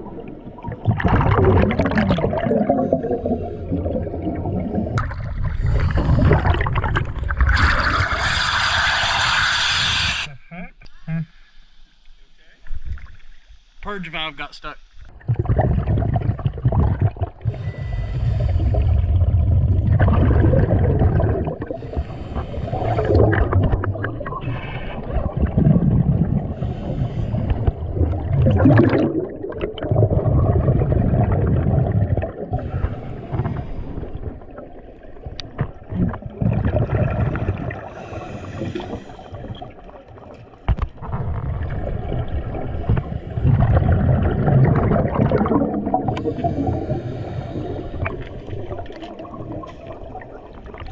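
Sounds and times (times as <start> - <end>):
underwater regulator bubbling: 0.0 - 10.3, 15.1 - 50.9.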